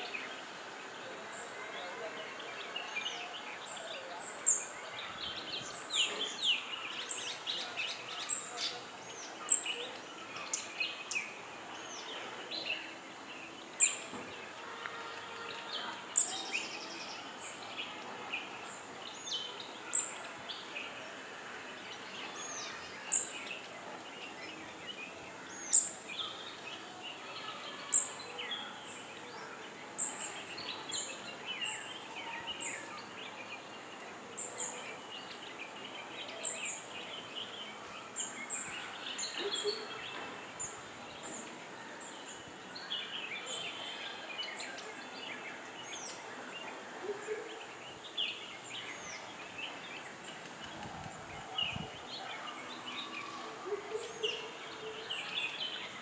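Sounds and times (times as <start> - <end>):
outdoor background hiss: 0.0 - 56.0
songbirds chirping: 0.0 - 56.0.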